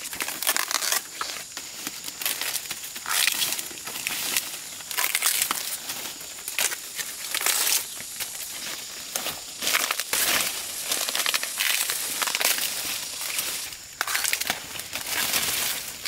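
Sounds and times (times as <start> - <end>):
dry leaves crackling and rustling: 0.0 - 16.0.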